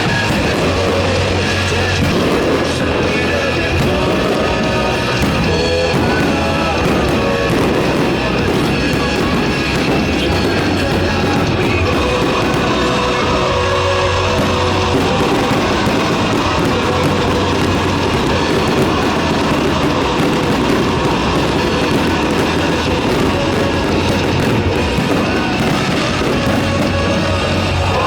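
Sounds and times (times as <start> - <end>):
loud guitar music: 0.0 - 28.0.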